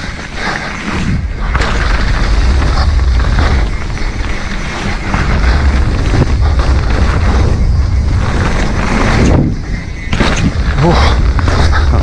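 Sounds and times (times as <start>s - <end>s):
bike rattling: 0.0s - 12.0s
tyre noise on rough ground: 0.0s - 12.0s
wind rumble on microphone: 0.0s - 12.0s.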